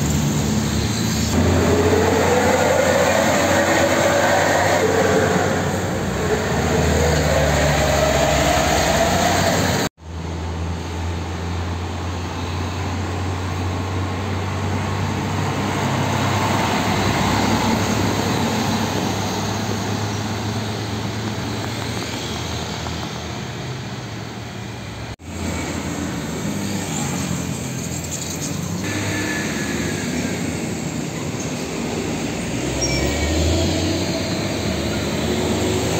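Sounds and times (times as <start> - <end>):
truck engine accelerating: 0.0 - 10.6, 11.5 - 35.9
diesel trucks driving past: 0.0 - 35.9.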